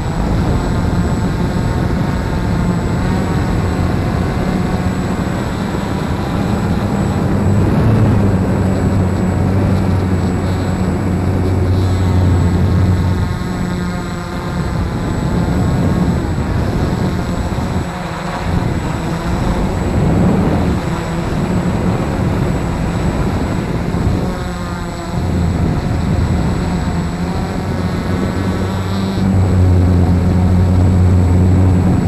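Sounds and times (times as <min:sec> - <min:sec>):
quadcopter propellers buzzing: 0:00.0 - 0:32.0
rushing air: 0:00.0 - 0:32.0.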